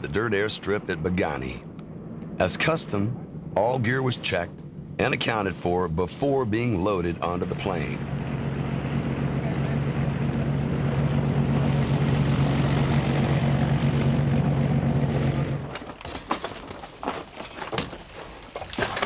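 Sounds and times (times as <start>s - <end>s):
aircraft engines droning: 0.0s - 15.8s.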